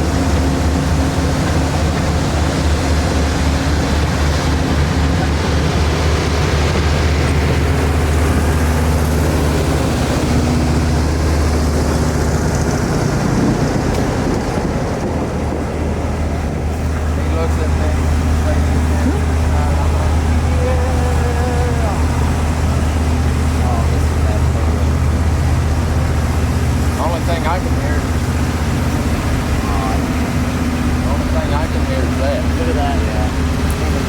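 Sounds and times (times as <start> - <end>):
low drone: 0.0 - 34.0
train wheels rumbling on rail: 0.0 - 34.0.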